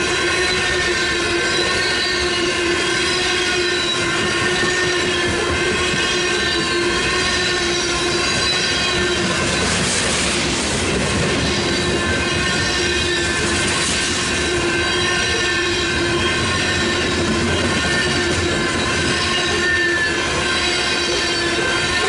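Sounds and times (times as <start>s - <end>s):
crossing warning bells ringing: 0.0s - 22.0s
train wheels rumbling on rail: 0.0s - 22.0s.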